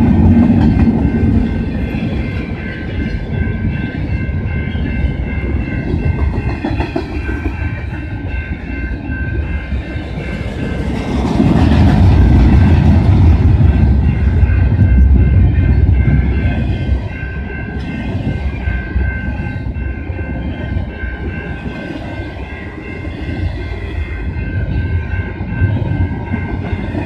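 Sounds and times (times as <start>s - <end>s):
clickety-clack over rail joints: 0.0s - 9.0s, 9.6s - 22.4s
train wheels rumbling on rails: 0.0s - 27.0s.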